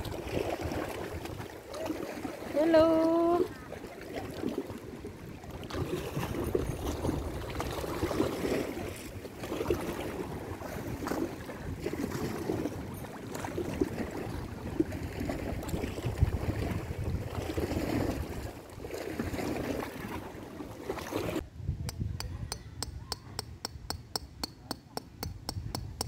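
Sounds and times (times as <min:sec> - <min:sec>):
wind rumble on microphone: 0:00.0 - 0:03.5, 0:04.4 - 0:20.5, 0:21.2 - 0:23.9, 0:25.2 - 0:26.0
waves lapping on rocks: 0:00.0 - 0:21.4.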